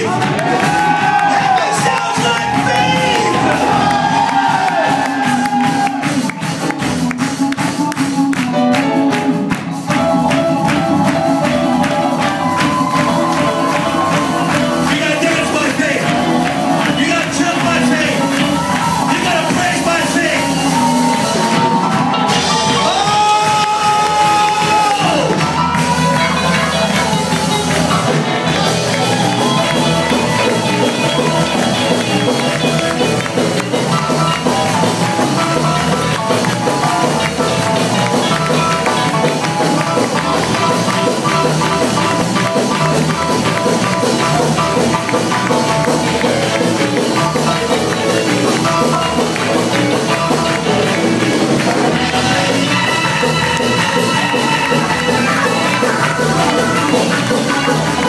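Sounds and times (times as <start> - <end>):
live worship band with keyboard: 0.0 - 58.0.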